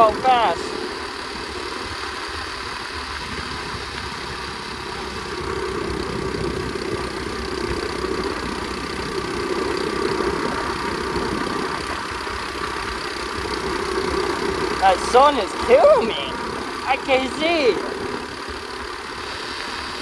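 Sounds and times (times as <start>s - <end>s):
pit bike engine running: 0.0s - 20.0s.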